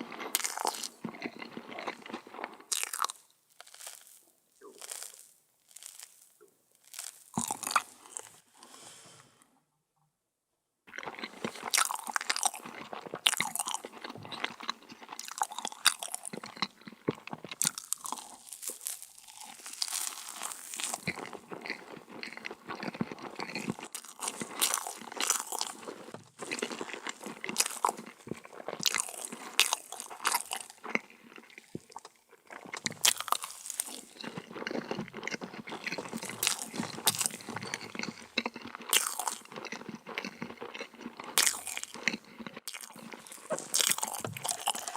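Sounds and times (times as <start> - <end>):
person chewing crunchy food: 0.0 - 9.1, 10.9 - 44.9.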